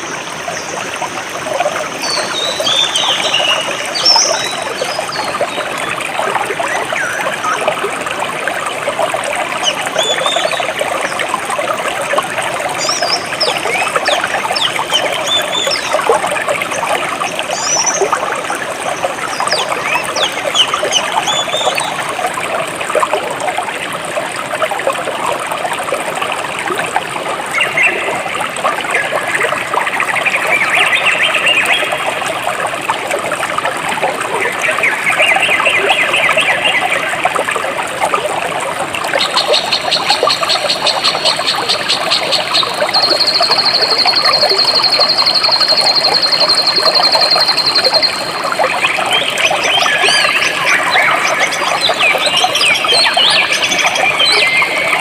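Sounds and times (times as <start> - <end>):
water trickling over rocks: 0.0 - 55.0.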